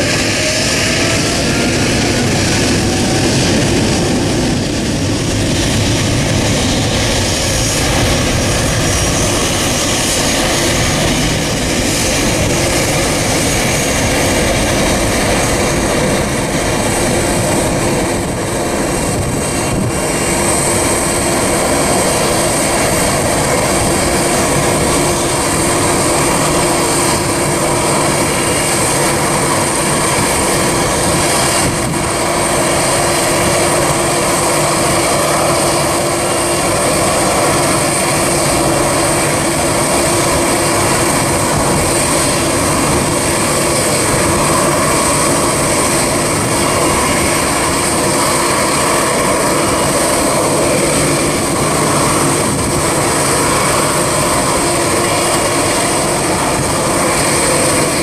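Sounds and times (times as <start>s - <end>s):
jet engine roar with whine: 0.0s - 58.0s.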